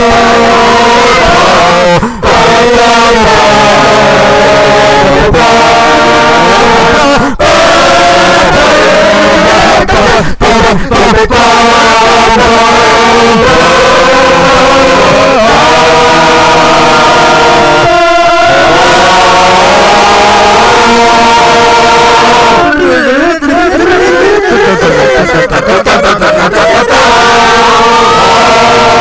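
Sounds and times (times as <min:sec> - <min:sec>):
voices singing held chord notes: 0:00.0 - 0:29.0.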